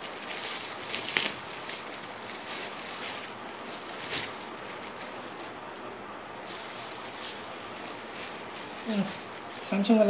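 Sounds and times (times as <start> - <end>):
bubble wrap rustling and crinkling: 0.0 - 10.0.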